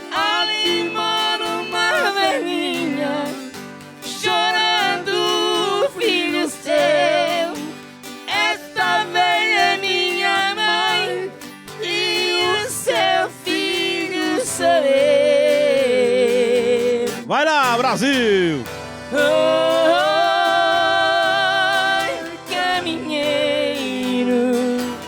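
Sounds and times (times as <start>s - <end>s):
country band music: 0.0s - 25.0s.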